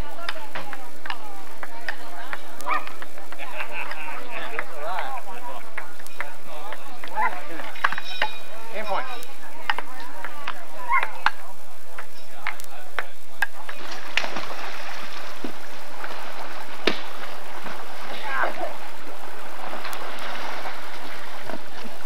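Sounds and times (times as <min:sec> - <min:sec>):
pool water splashing: 0:00.0 - 0:22.0.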